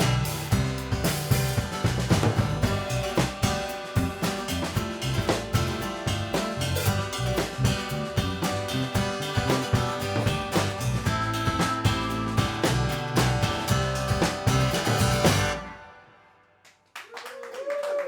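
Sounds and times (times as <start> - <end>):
bass line: 0.0 - 15.8
drum kit beat: 0.0 - 15.8
live band playing: 0.0 - 15.8.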